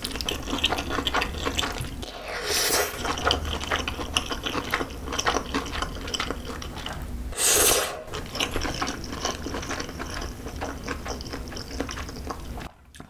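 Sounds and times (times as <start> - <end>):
wet chewing of noodles: 0.0 - 13.0.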